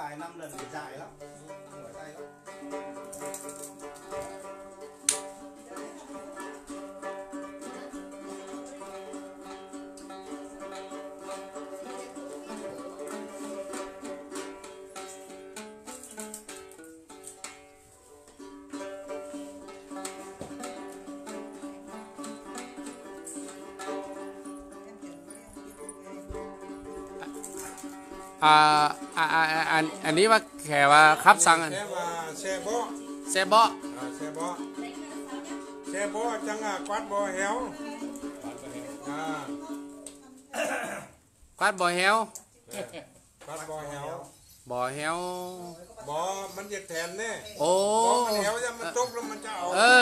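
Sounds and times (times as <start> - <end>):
plucked string folk tune: 0.0 - 40.6, 41.6 - 50.0.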